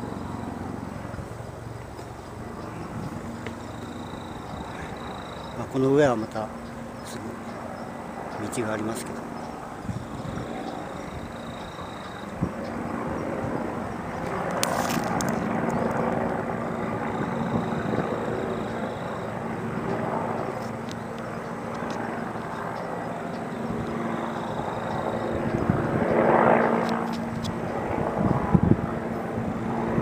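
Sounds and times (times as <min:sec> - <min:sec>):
engine drone: 0:00.0 - 0:30.0.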